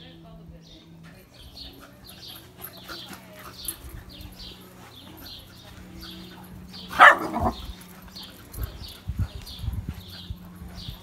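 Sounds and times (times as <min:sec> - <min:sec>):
puppies playing and scuffling: 0:00.0 - 0:11.0.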